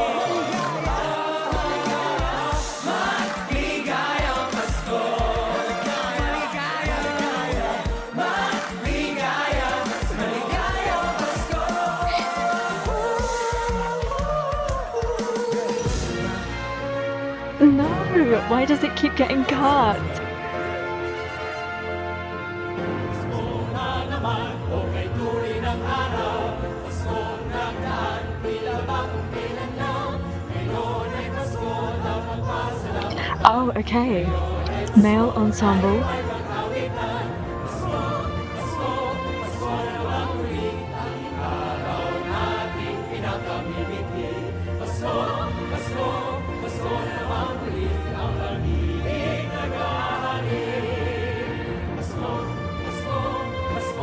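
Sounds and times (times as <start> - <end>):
male choir singing: 0.0 - 17.0, 17.7 - 33.6, 34.2 - 54.0
musical accompaniment: 0.0 - 54.0.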